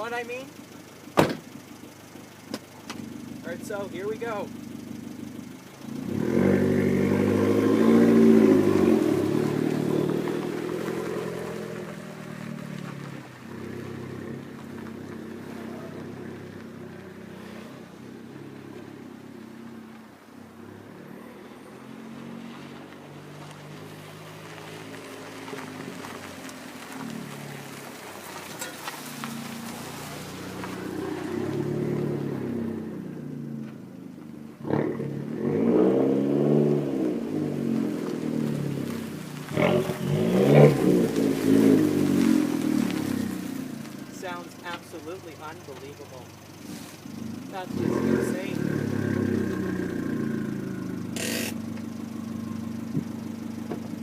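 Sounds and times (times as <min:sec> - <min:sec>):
car engine accelerating: 0:00.0 - 0:54.0
exhaust crack: 0:00.0 - 0:54.0.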